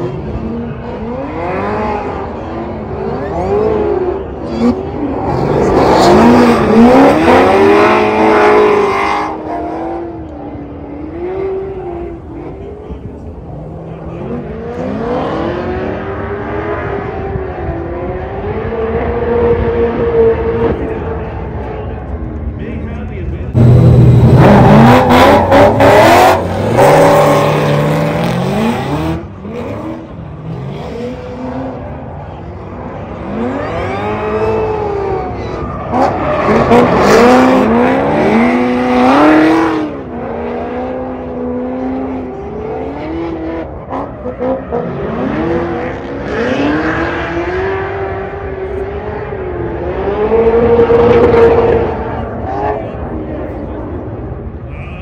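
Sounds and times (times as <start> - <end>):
car engines revving hard: 0.0 - 54.7.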